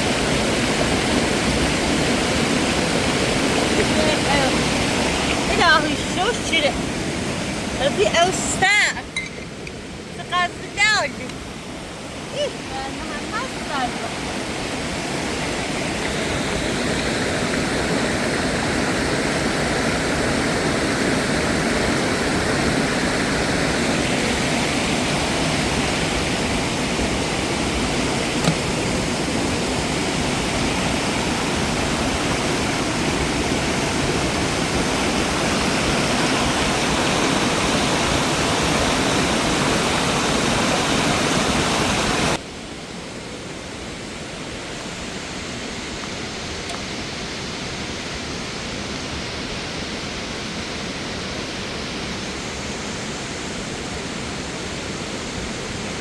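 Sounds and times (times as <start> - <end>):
rushing mountain water: 0.0 - 56.0.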